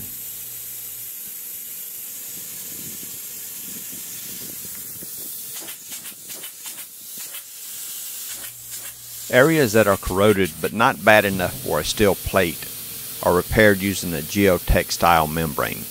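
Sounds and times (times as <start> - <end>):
spray gun hissing: 0.0 - 15.9.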